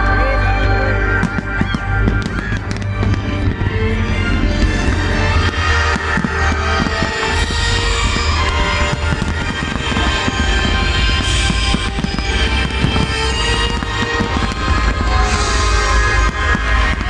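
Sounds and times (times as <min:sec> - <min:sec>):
music playing: 0:00.0 - 0:17.0
fireworks bursting: 0:01.0 - 0:17.0.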